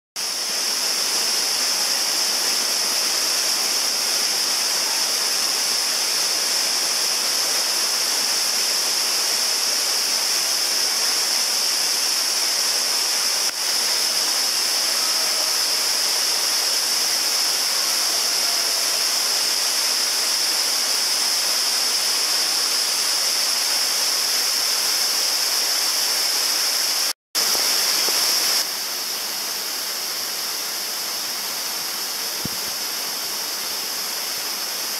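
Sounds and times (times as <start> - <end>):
stream water rushing: 0.2 - 34.9.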